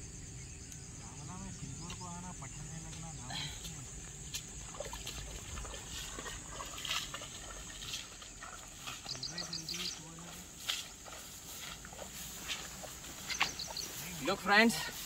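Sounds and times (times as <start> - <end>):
footsteps through tall grass: 2.8 - 15.0.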